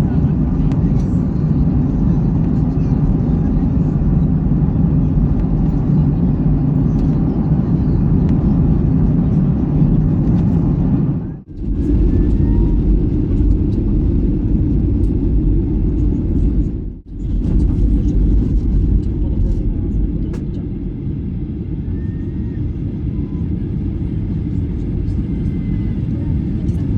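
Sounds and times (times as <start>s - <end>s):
airplane cabin engine rumble: 0.0s - 26.9s.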